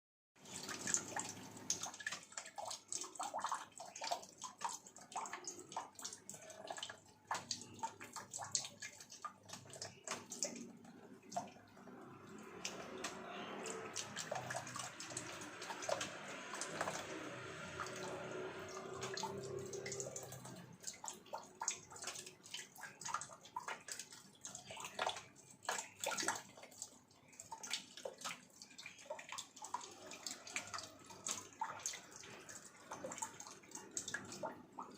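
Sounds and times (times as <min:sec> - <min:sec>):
cat lapping water: 0:00.4 - 0:34.9
water running from a tap: 0:00.4 - 0:34.9.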